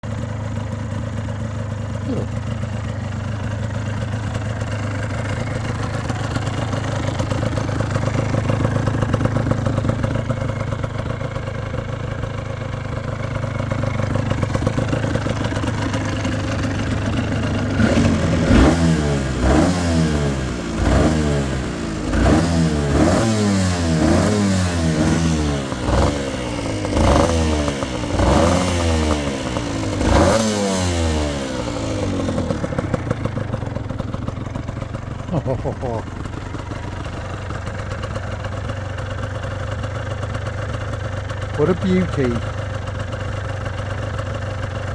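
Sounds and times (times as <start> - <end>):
two-stroke motorcycle engine revving: 0.0 - 44.9.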